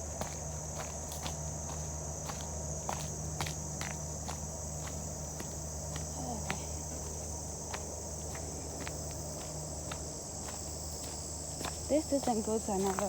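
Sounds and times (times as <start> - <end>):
footsteps on a trail: 0.0 - 13.0
high-pitched insect chorus: 0.0 - 13.0.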